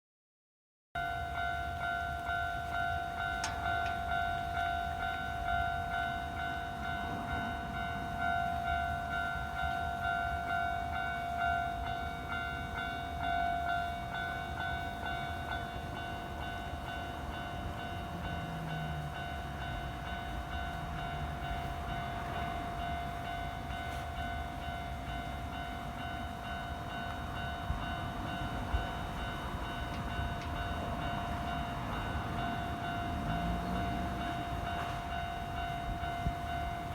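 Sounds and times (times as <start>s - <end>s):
level crossing alarm ringing: 1.0s - 36.9s
train rumbling: 1.1s - 36.9s.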